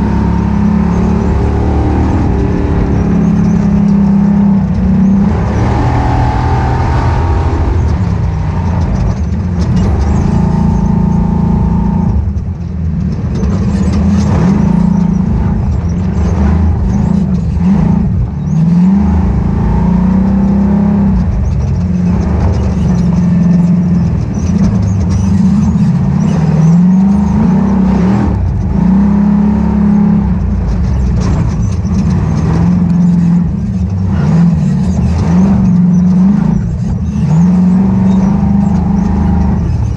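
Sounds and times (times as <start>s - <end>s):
knocks and rattles: 0.0s - 39.9s
race car engine revving: 0.0s - 39.9s.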